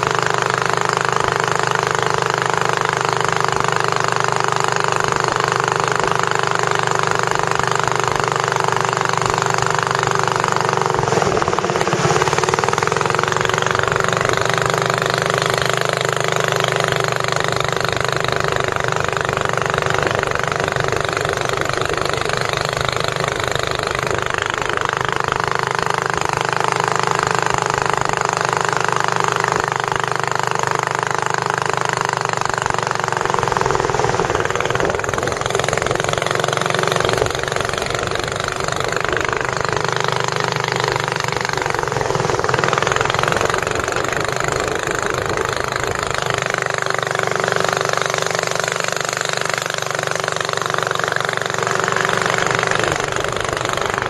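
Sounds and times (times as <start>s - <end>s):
boat engine rattling: 0.0s - 54.0s.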